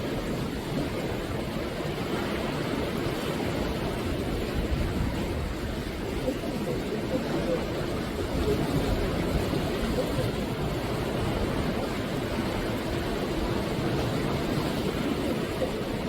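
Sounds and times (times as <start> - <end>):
sea waves on shore: 0.0 - 16.0.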